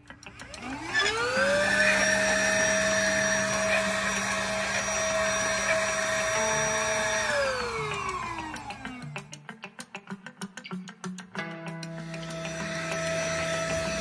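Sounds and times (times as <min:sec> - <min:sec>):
handheld vacuum motor whine: 0:00.0 - 0:09.3, 0:11.9 - 0:14.0.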